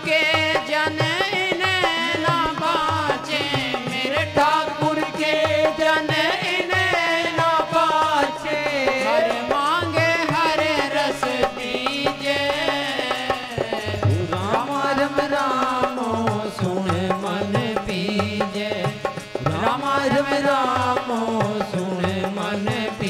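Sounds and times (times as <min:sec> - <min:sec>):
hand drum beat: 0:00.0 - 0:23.0.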